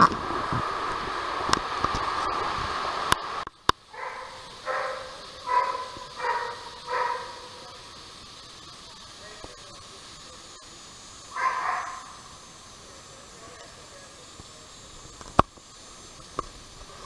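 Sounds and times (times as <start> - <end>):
steady noise: 0.0 - 17.0.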